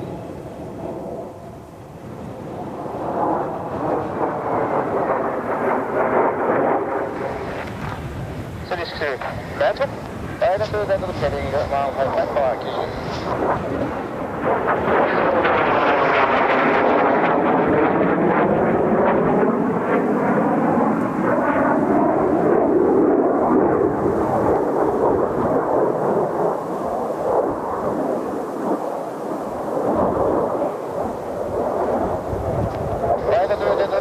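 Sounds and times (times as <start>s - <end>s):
jet planes flying past: 0.0s - 34.0s.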